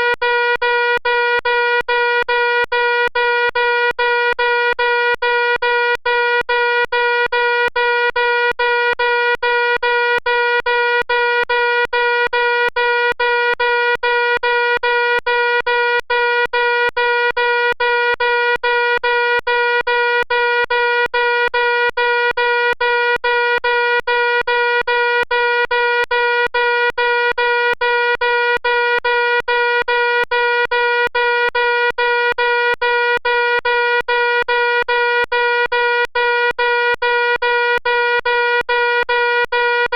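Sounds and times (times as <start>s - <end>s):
electronic fire alarm tone: 0.0s - 39.9s.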